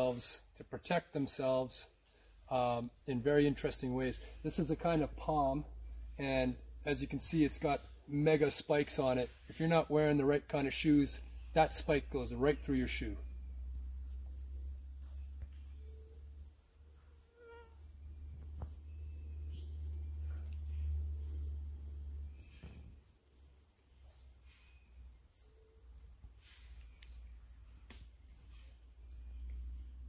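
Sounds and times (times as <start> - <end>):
insects calling shrilly: 0.0 - 30.0.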